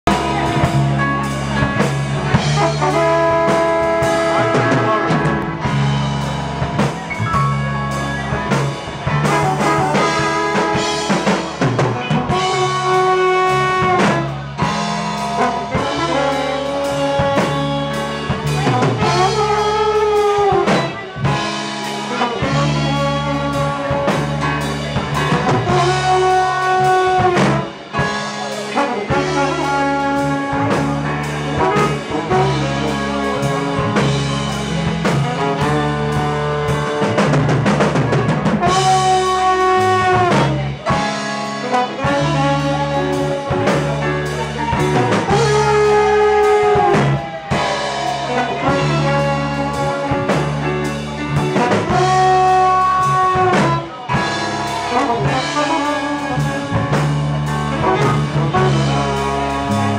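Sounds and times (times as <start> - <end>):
bass guitar: 0.0 - 59.9
drum kit: 0.0 - 59.9
electric keyboard: 0.0 - 59.9
saxophone melody: 0.0 - 59.9
trombone melody: 0.0 - 59.9.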